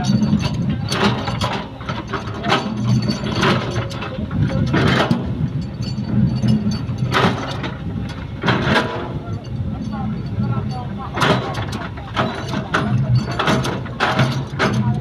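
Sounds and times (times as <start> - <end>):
excavator diesel engine running: 0.0 - 15.0
metallic clanks and scrapes: 0.0 - 15.0.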